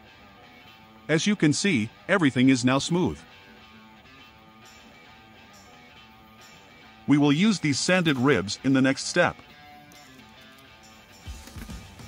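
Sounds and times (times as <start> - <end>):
quiet instrumental music: 0.0 - 12.0.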